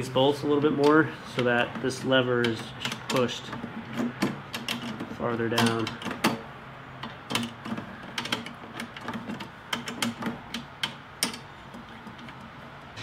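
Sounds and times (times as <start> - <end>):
metal lever linkage clicking: 0.6 - 6.4, 7.0 - 12.6.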